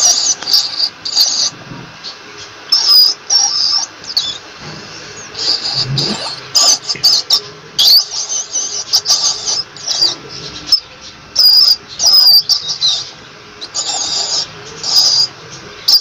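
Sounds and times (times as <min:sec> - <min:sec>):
rat squeaking: 0:00.0 - 0:16.0.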